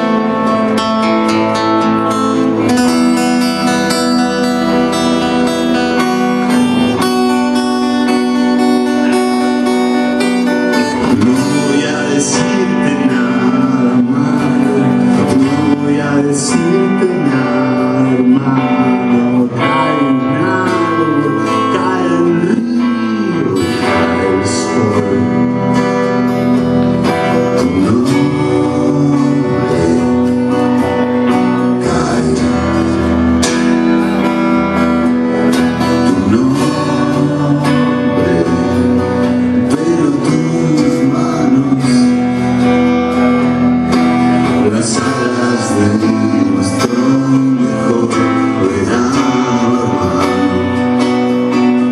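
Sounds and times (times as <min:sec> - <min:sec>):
guitars strumming: 0:00.0 - 0:51.9
man singing: 0:00.0 - 0:51.9.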